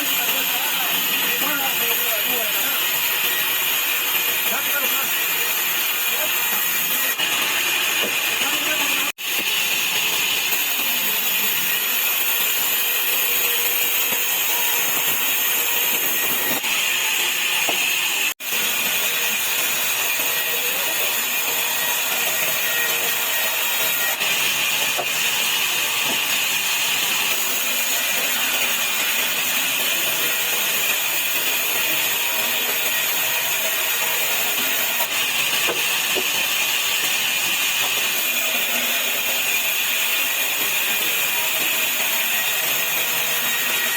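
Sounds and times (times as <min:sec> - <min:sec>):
sawmill saw cutting wood: 0:00.0 - 0:43.9.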